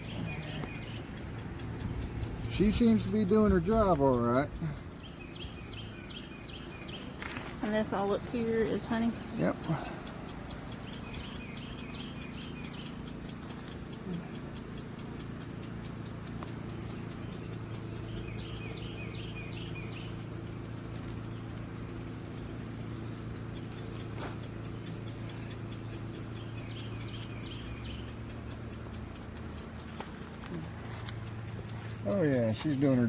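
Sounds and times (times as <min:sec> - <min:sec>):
bird chirping: 0:00.0 - 0:33.0
honeybees buzzing: 0:00.0 - 0:33.0.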